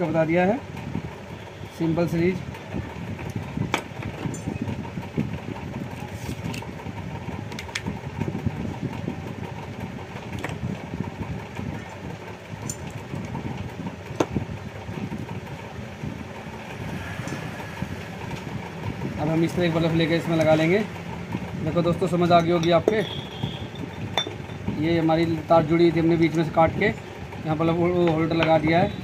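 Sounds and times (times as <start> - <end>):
low engine-like rumble: 0.0 - 29.0.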